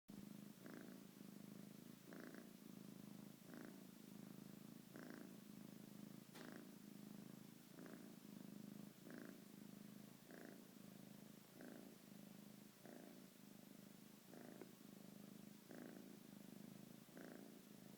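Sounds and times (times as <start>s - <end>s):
pet snoring faintly: 0.2s - 17.9s.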